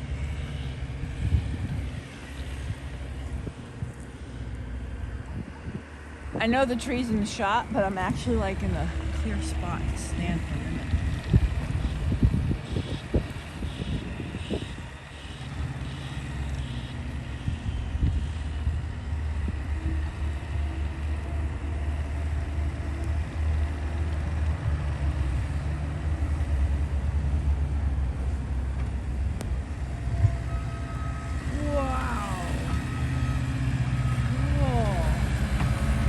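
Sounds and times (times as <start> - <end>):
truck engine rumble: 0.0 - 36.0.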